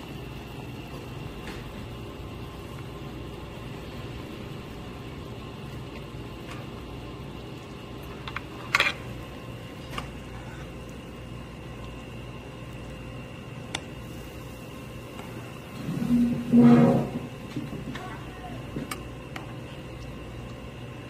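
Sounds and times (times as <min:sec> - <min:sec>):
restaurant room hum: 0:00.0 - 0:21.0.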